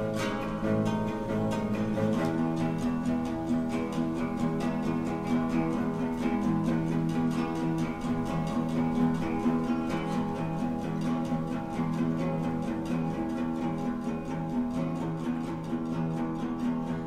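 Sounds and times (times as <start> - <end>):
guitar strumming: 0.0 - 17.0.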